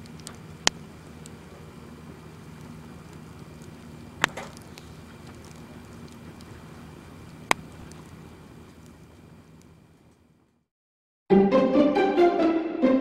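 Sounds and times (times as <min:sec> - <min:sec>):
burning logs popping: 0:00.0 - 0:10.6
wood fire burning: 0:00.0 - 0:10.7.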